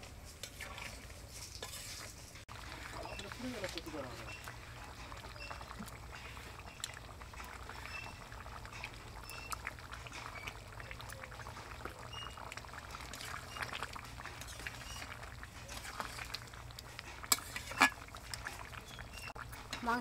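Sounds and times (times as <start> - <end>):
metal spatula stirring: 0.3 - 20.0
curry bubbling in a pan: 0.4 - 20.0.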